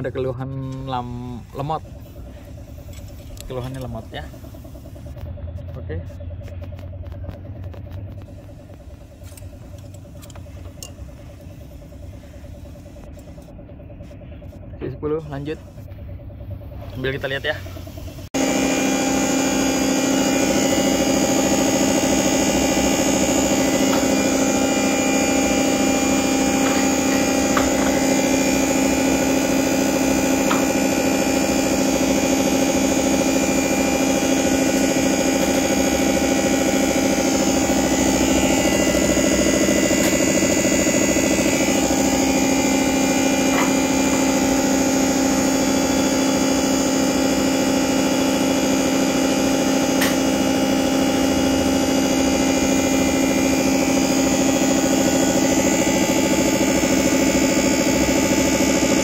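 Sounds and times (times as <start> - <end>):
test bench pump humming: 0.0 - 59.0.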